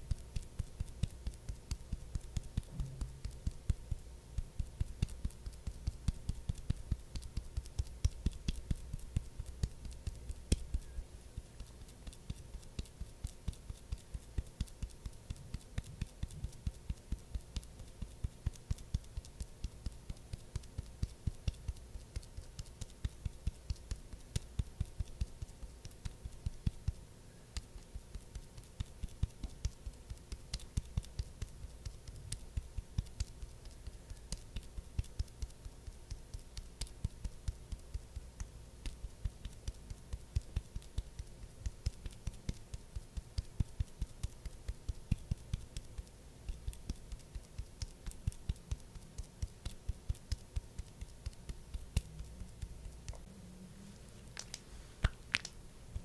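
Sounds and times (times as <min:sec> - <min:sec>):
light tapping clicks: 0:00.0 - 0:53.3.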